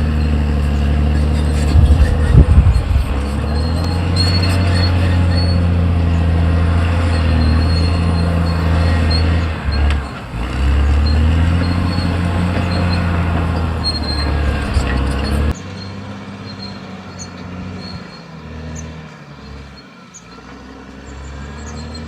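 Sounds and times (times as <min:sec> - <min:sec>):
bulldozer diesel engine running: 0:00.0 - 0:22.0
short high squeaks: 0:00.0 - 0:22.0.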